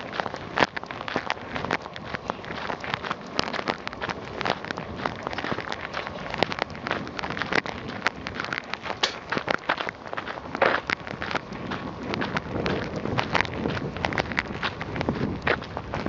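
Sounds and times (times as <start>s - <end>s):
footsteps running on gravel: 0.0s - 16.0s.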